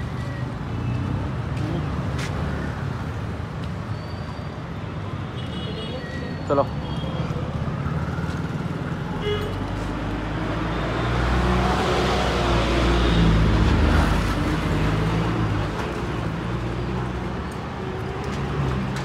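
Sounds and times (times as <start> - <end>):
steady traffic noise: 0.0 - 19.0.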